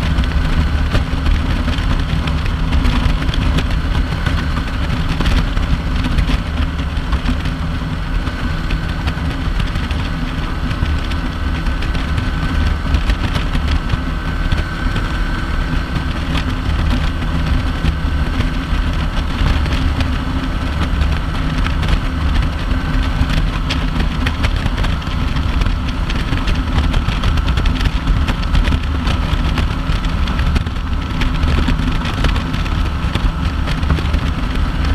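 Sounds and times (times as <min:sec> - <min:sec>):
motorcycle engine cruising: 0:00.0 - 0:34.9
wind and road noise: 0:00.0 - 0:34.9.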